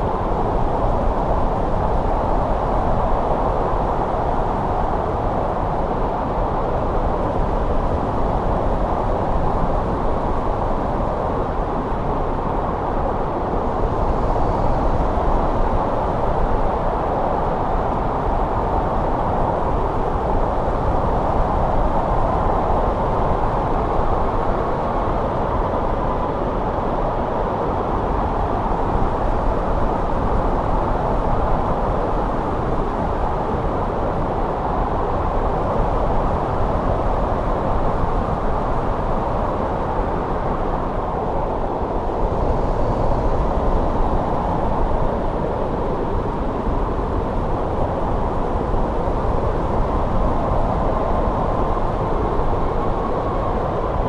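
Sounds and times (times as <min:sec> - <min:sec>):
snowstorm wind rushing: 0:00.0 - 0:54.0.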